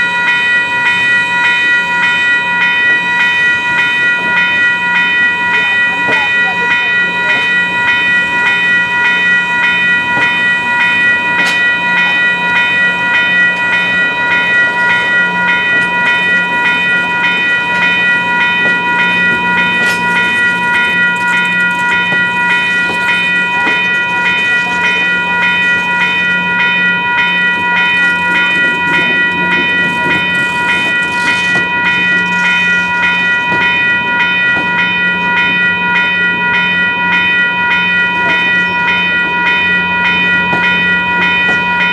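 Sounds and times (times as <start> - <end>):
bell ringing: 0.0 - 41.9
train running: 0.0 - 41.9.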